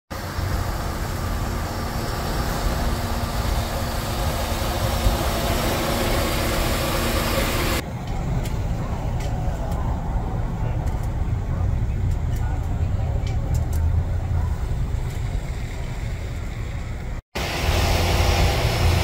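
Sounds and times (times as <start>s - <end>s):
low engine rumble: 0.1s - 19.0s
road traffic hiss: 0.1s - 19.0s.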